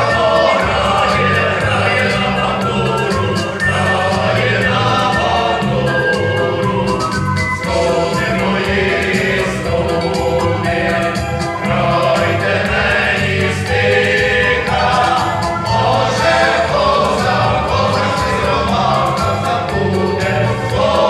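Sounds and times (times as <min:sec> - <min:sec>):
choir singing in harmony: 0:00.0 - 0:21.0.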